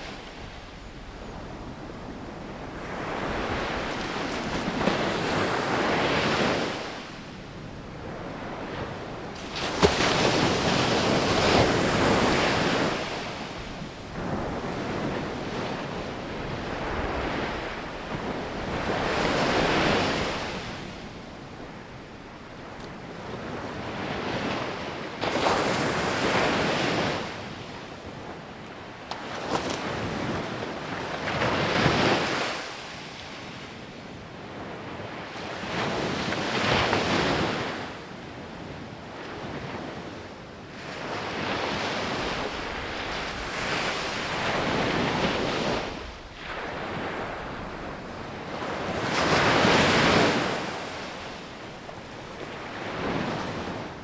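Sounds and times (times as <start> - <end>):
sea waves breaking on a beach: 0.0 - 54.0.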